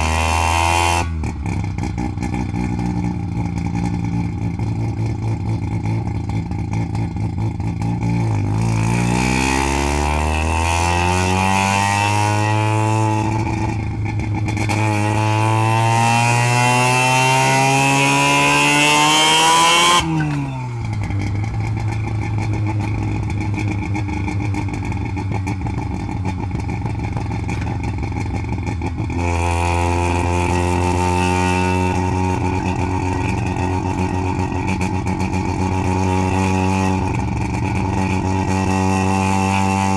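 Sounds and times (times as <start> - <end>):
rotary engine accelerating: 0.0 - 2.9, 8.2 - 39.9.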